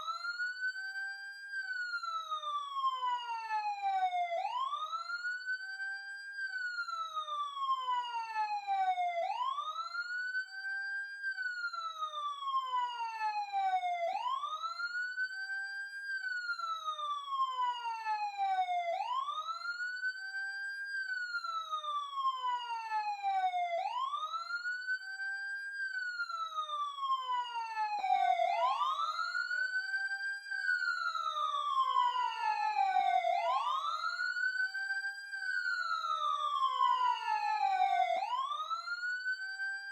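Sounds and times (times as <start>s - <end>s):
police car siren wailing: 2.0s - 5.2s, 6.9s - 10.1s, 11.6s - 15.1s, 16.3s - 20.5s, 21.1s - 25.2s, 25.9s - 39.9s.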